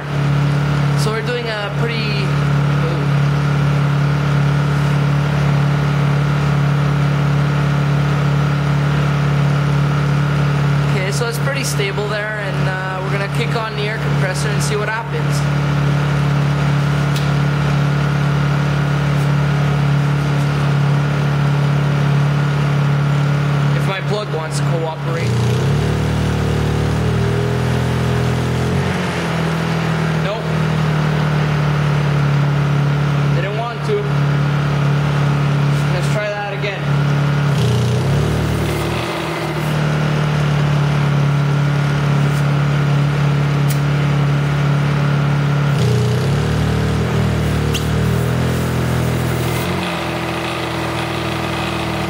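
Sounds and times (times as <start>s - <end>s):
generator engine running: 0.0s - 52.0s.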